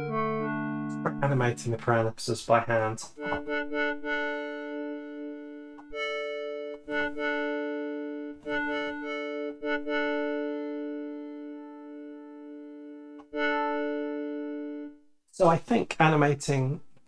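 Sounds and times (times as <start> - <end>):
synthesizer chord: 0.0 - 15.1.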